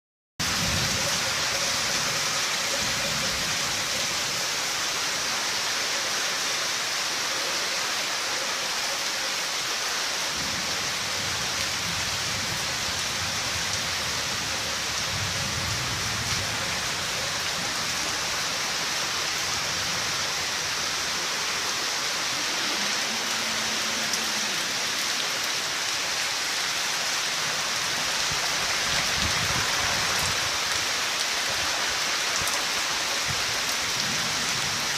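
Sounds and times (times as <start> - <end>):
rain falling and splashing: 0.4 - 34.9.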